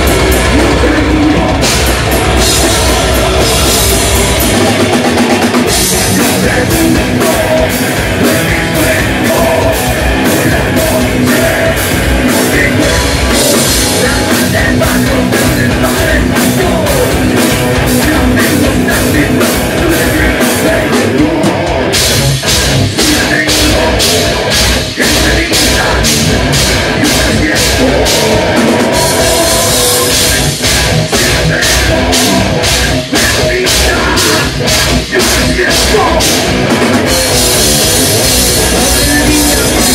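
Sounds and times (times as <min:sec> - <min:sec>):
person singing into microphone: 0:00.0 - 0:22.0, 0:22.6 - 0:39.9
drum kit beat: 0:00.0 - 0:39.9
electric guitar: 0:00.0 - 0:39.9.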